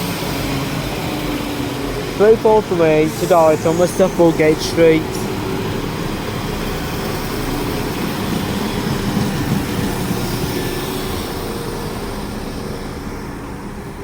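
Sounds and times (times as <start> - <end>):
train engine and wheels rumbling: 0.0 - 14.0.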